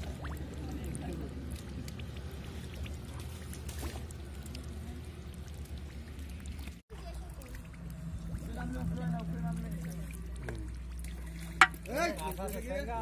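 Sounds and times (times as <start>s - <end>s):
water splashing and pouring: 0.0s - 13.0s.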